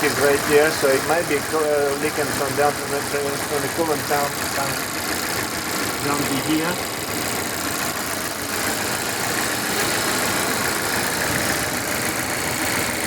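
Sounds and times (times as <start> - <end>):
car engine idling and misfiring: 0.0 - 13.0.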